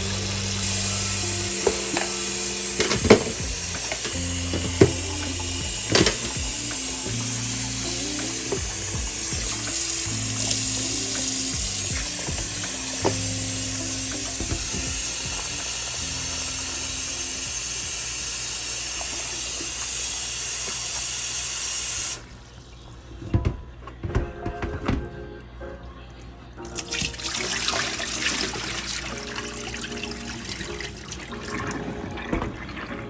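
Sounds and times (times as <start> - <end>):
background music with low notes: 0.0 - 18.2, 23.0 - 33.0
tap water running into sink: 0.0 - 23.0, 26.8 - 32.9.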